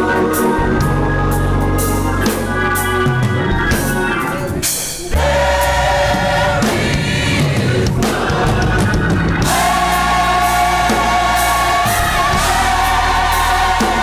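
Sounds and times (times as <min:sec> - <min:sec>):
bass guitar: 0:00.0 - 0:14.0
drums: 0:00.0 - 0:14.0
gospel choir singing: 0:00.0 - 0:14.0
organ: 0:00.0 - 0:14.0.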